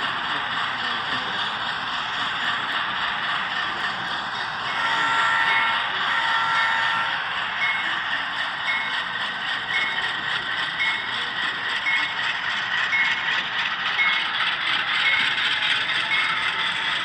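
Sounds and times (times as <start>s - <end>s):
model train clattering on track: 0.0s - 17.0s.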